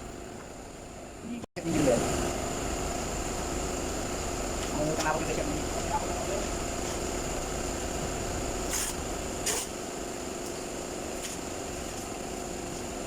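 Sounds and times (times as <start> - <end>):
mechanical hum with high tone: 0.0 - 13.0.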